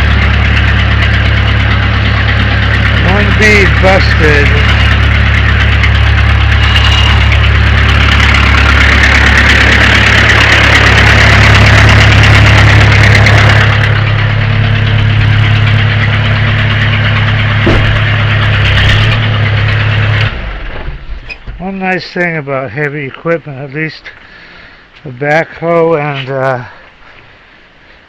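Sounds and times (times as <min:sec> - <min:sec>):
backhoe engine running: 0:00.0 - 0:25.0.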